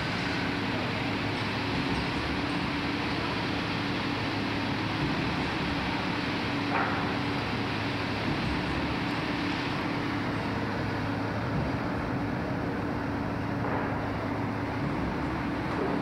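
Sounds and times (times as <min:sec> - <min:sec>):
construction machinery droning: 0:00.0 - 0:16.0.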